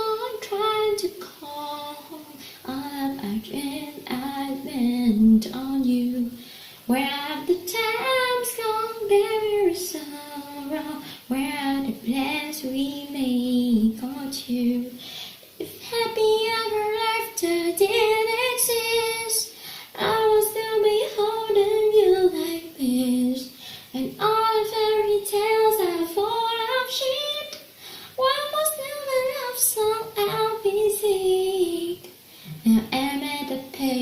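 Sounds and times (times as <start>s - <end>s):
child singing: 0.0s - 6.3s, 6.9s - 14.9s, 15.6s - 27.6s, 28.2s - 34.0s.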